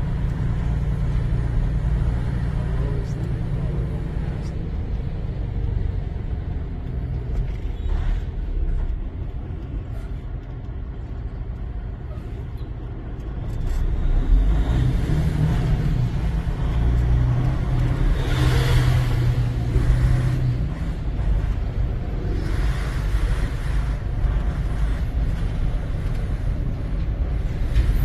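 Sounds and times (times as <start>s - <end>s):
truck diesel engine droning: 0.0s - 28.0s.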